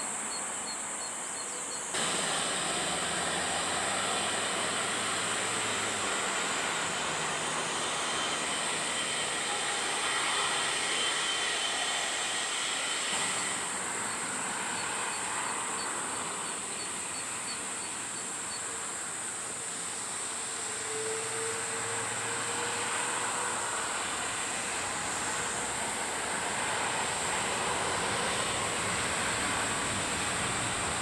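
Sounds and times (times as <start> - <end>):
jet engines at takeoff power: 0.0 - 31.0.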